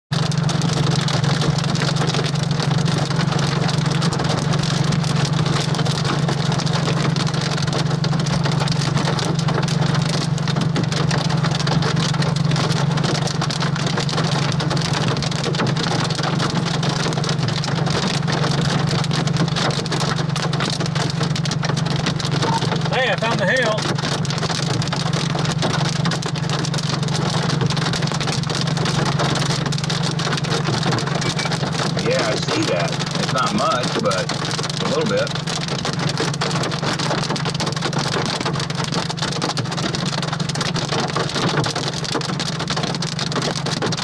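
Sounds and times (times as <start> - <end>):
engine and road noise drone: 0.1 - 44.0
heavy rain on vehicle roof: 0.1 - 44.0.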